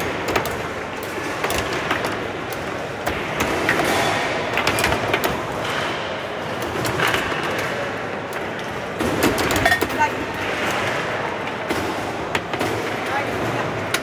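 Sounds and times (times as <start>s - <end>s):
foosball clacking on figures: 0.0s - 14.0s.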